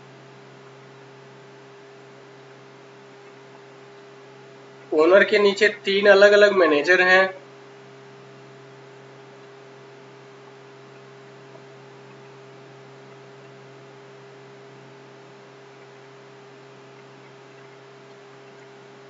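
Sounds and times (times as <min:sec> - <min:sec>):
constant hiss: 0:00.0 - 0:19.0
electrical hum: 0:00.0 - 0:19.0.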